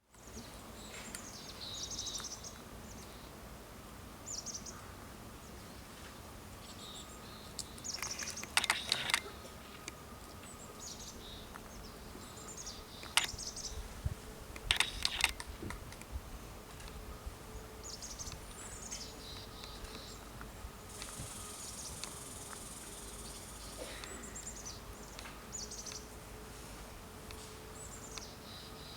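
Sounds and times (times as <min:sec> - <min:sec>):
faint steady hum: 0:00.0 - 0:28.9
songbirds chirping: 0:00.1 - 0:28.9.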